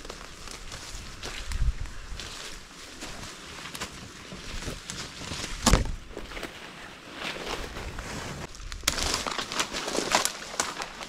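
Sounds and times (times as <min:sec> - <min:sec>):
footsteps through dry leaves: 0:00.0 - 0:06.3, 0:07.4 - 0:11.0
twigs crackling and snapping: 0:00.0 - 0:06.5, 0:08.5 - 0:11.0.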